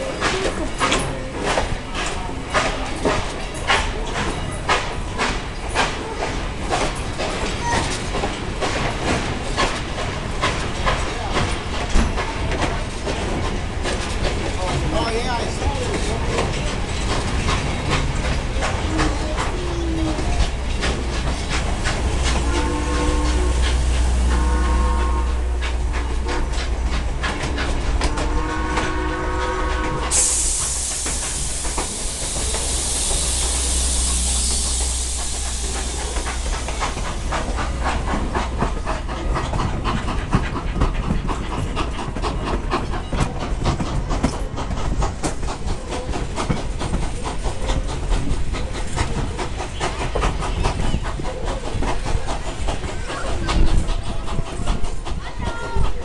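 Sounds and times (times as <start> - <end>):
steam hissing: 0.0 - 56.0
train wheels clickety-clack: 0.0 - 56.0.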